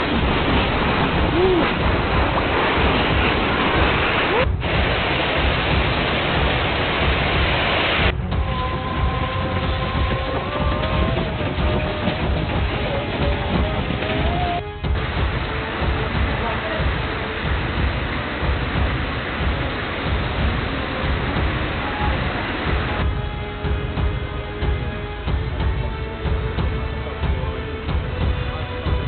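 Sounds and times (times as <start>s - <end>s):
heavy rain: 0.0s - 29.0s
storm wind: 0.0s - 29.0s.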